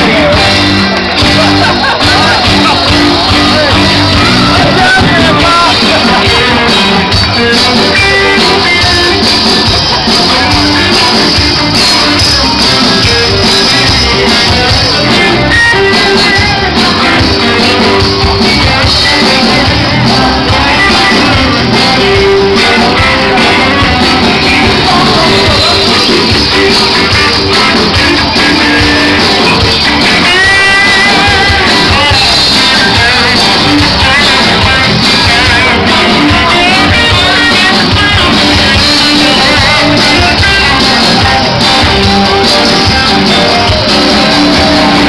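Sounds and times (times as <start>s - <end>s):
person singing: 0.0s - 45.0s
rock music with guitar: 0.0s - 45.0s.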